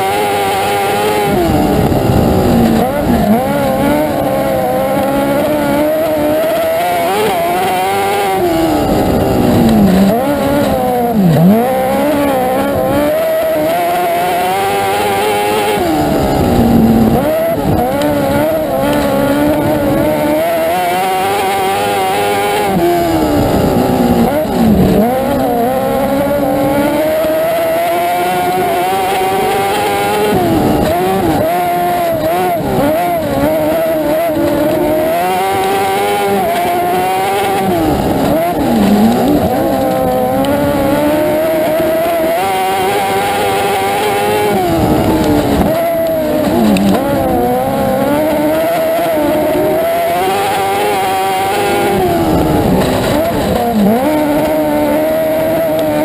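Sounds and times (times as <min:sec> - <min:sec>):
motorcycle engine racing: 0:00.0 - 0:56.0.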